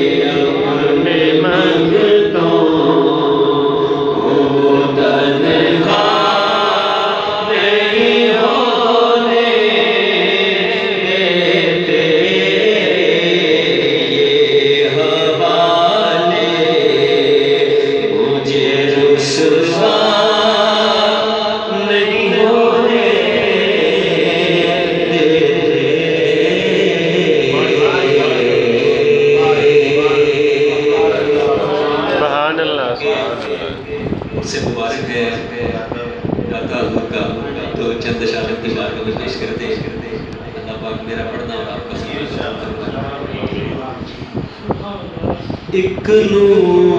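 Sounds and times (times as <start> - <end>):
man singing into a microphone: 0.0 - 40.1, 45.6 - 46.9.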